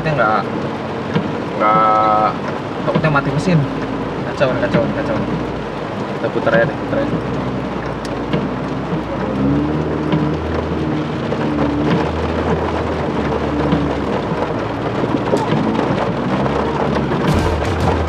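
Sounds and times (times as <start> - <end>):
heavy rain on car roof: 0.0 - 18.0.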